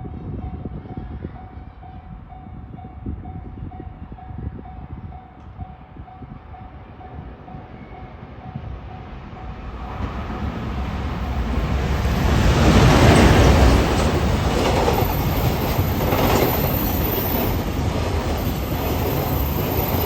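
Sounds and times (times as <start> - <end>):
train approaching: 0.0 - 20.0.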